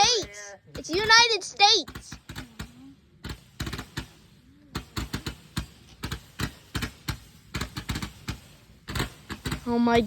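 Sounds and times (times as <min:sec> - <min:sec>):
firework crackling and popping: 0:00.0 - 0:10.0.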